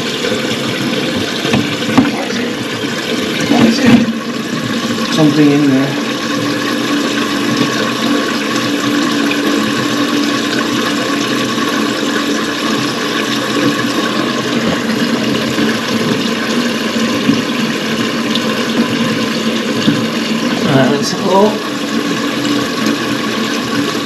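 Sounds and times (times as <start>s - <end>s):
water running into cistern: 0.0s - 24.0s.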